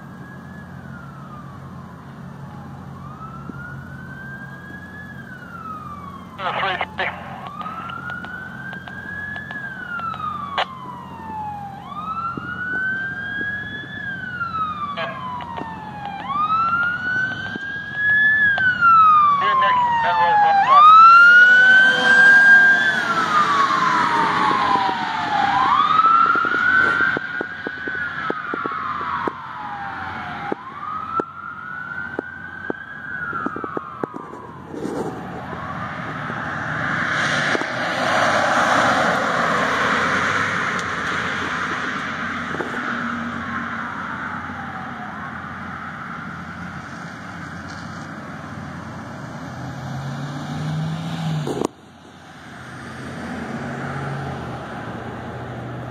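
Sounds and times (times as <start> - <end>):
fire truck siren wailing: 0.0 - 55.9
truck passing: 0.0 - 55.9.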